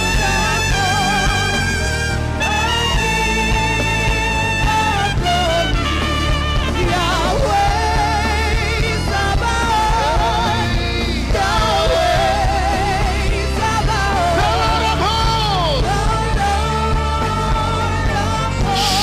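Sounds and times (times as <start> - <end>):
band accompaniment: 0.0 - 19.0
person singing with vibrato: 0.0 - 19.0.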